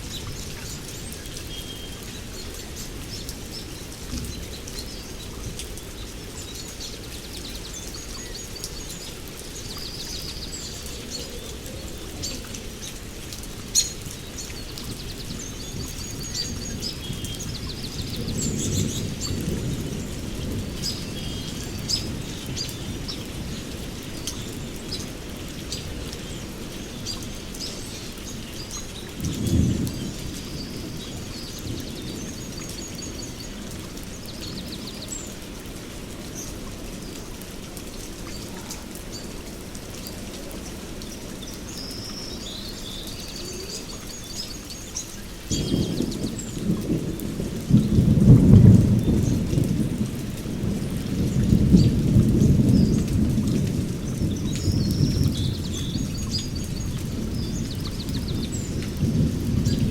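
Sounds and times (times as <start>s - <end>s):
heavy rain on leaves: 0.0s - 59.9s.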